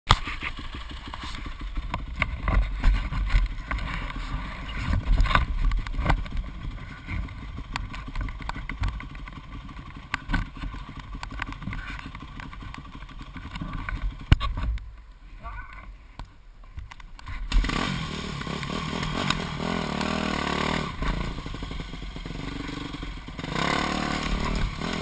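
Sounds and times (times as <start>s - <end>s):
dirt bike engine running: 0.1s - 14.8s, 17.4s - 25.0s.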